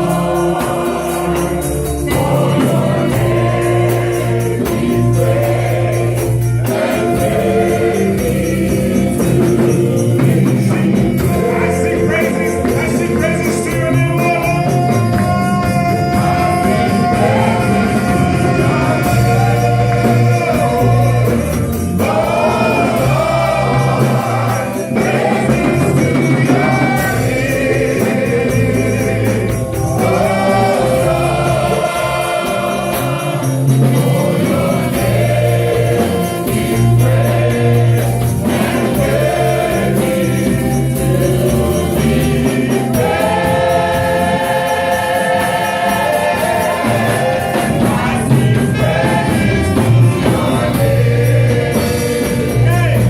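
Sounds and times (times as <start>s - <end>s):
choir singing with a band: 0.0s - 53.0s.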